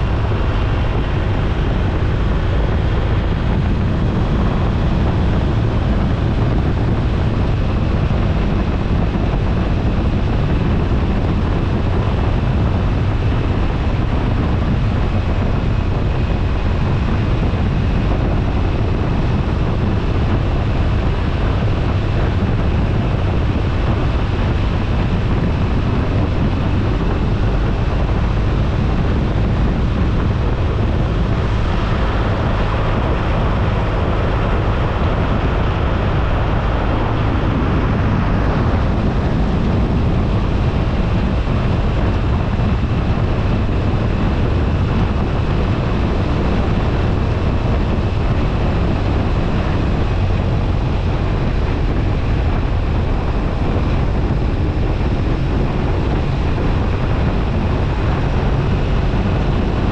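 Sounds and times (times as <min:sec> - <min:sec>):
motorcycle engine humming: 0:00.0 - 0:59.8
wind rushing over microphone: 0:00.0 - 0:59.9.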